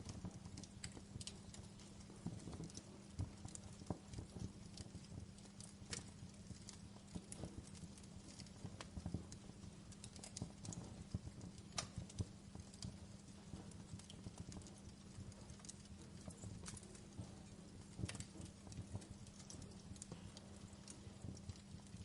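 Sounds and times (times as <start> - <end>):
faint steady hum: 0.0 - 22.0
wood fire crackling: 0.0 - 22.0.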